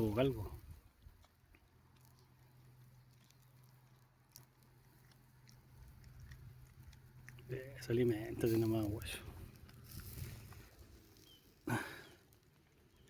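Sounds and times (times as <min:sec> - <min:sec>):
dog chewing: 0:00.5 - 0:11.5.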